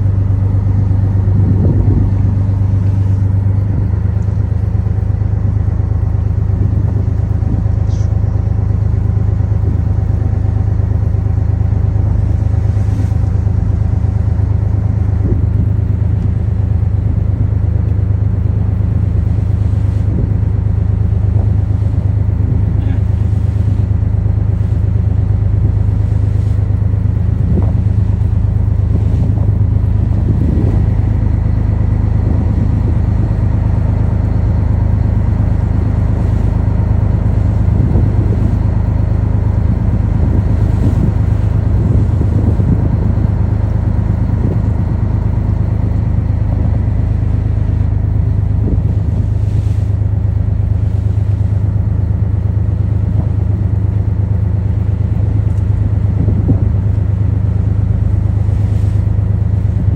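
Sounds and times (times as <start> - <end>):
ship engine drone: 0.0 - 59.9.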